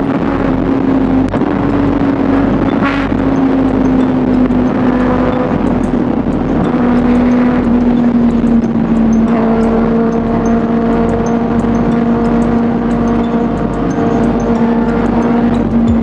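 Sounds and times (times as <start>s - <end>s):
motorcycle engine at high speed: 0.0s - 16.0s
wind rush on microphone: 0.0s - 16.0s.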